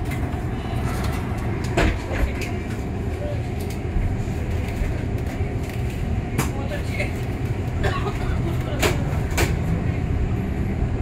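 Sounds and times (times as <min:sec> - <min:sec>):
bus rumble of tyres: 0:00.0 - 0:11.0.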